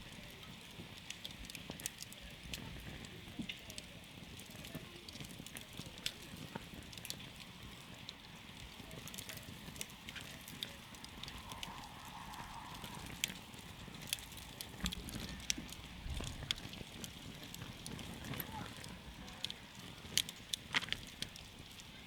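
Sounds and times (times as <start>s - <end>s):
campfire crackling and popping: 0.0s - 22.0s
hiss and rumble of flames: 0.0s - 22.0s.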